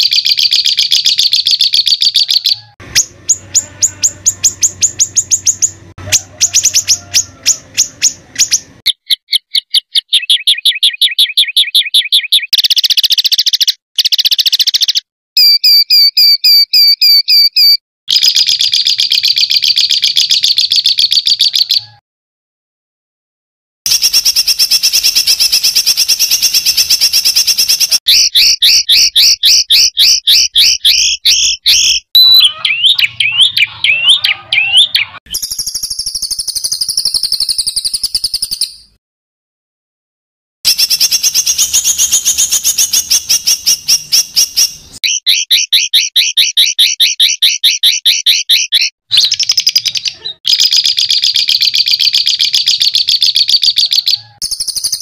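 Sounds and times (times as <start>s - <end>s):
songbird harsh rapid trills: 0.0s - 15.0s, 23.9s - 38.7s, 40.7s - 55.0s.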